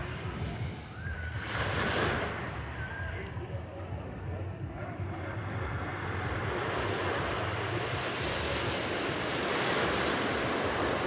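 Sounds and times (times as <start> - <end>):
small waves breaking on sand: 0.0 - 3.4, 5.1 - 11.0
wind rumble on microphone: 0.0 - 11.0.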